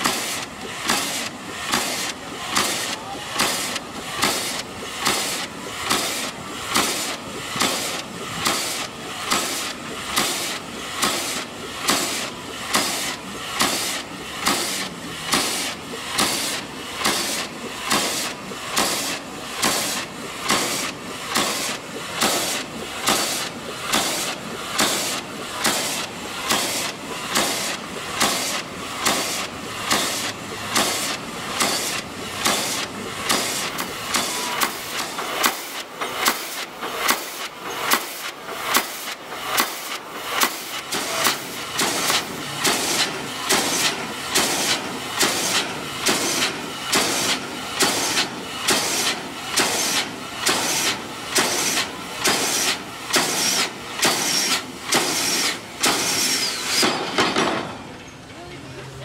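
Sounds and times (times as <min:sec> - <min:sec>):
exhaust steam hiss: 0:00.0 - 0:58.0
pile driver hammer pounding: 0:00.0 - 0:58.0.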